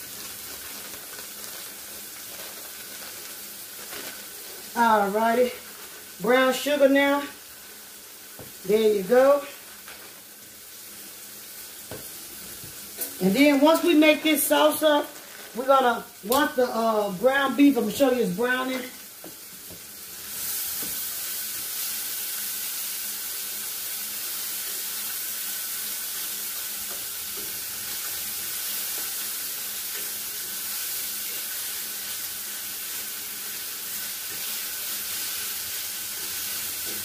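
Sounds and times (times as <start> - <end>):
utensil stirring in a skillet: 0.0 - 15.9, 17.8 - 37.0
meat sizzling in a skillet: 0.0 - 37.0.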